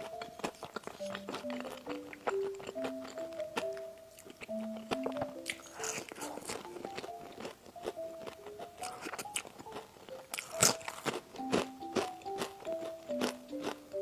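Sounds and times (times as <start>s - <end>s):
crunchy chewing of food: 0.0s - 14.0s
simple single-note melody: 0.0s - 14.0s.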